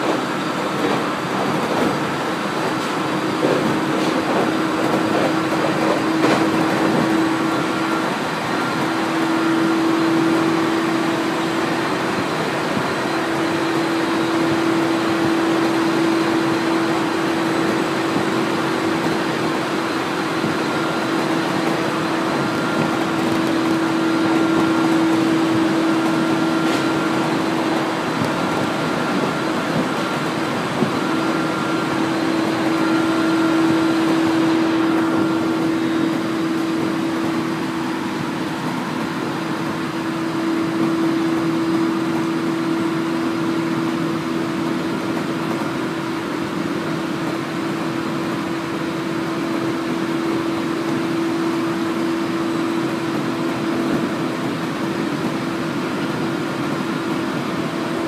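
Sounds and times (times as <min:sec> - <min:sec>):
steady hum: 0:00.0 - 0:58.0
train running noise from inside: 0:00.0 - 0:58.0.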